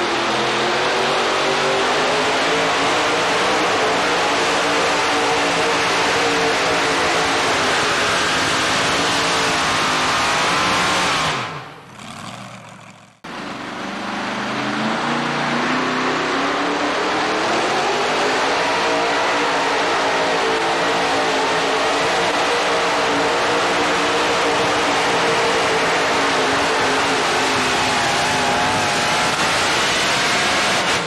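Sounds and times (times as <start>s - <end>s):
racing truck engines at full throttle: 0.0s - 31.0s.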